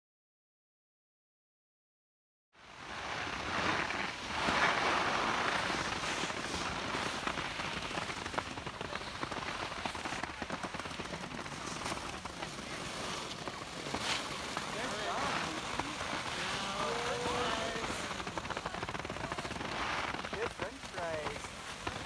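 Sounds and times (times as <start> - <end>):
skis scraping over snow: 2.6 - 22.0.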